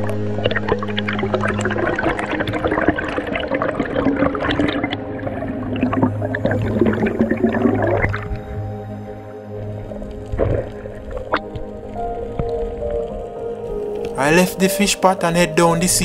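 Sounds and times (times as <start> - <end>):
underwater bubbling: 0.0 - 14.2
water rushing around camera: 0.0 - 15.8.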